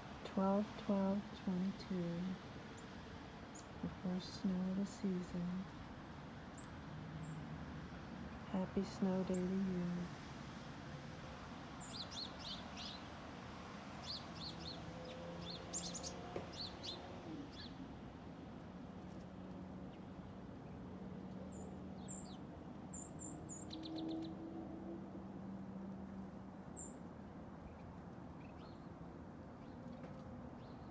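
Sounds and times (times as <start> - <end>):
songbirds chirping: 0.1 - 7.6, 8.2 - 10.3, 11.8 - 18.0, 19.2 - 24.6, 26.6 - 30.9.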